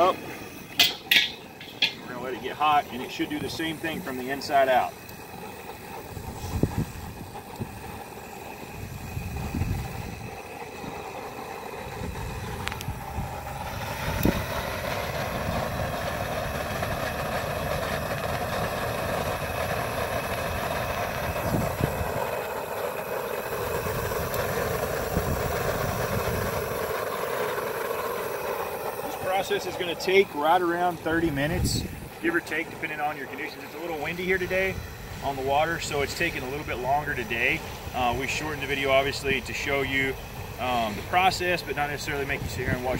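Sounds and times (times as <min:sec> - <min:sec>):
propane burner roaring: 0:00.0 - 0:42.9
wind buffeting microphone: 0:02.1 - 0:11.2, 0:11.8 - 0:22.5, 0:23.5 - 0:27.0, 0:29.1 - 0:42.9.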